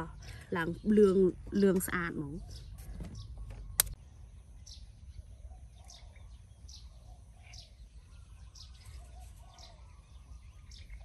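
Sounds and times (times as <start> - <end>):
birds chirping: 0.0 - 11.0
fainter lower bird calls: 0.0 - 11.0.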